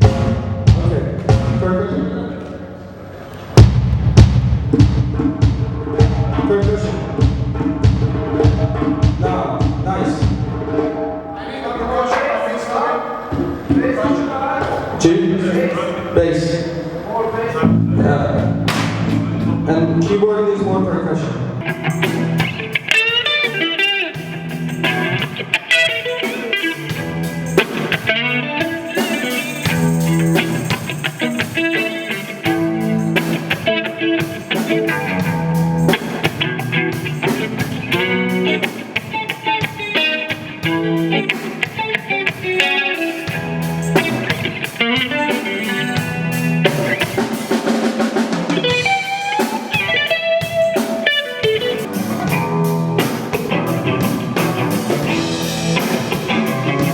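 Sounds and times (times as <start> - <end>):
drum kit and percussion: 0.0 - 1.9, 3.4 - 11.2, 18.3 - 19.7, 21.6 - 56.9
guitar: 0.0 - 11.5, 13.0 - 56.9.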